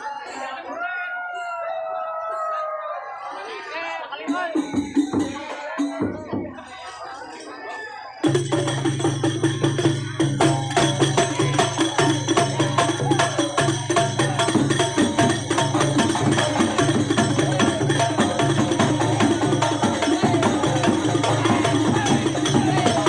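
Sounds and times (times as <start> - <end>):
percussion music: 3.8 - 23.0.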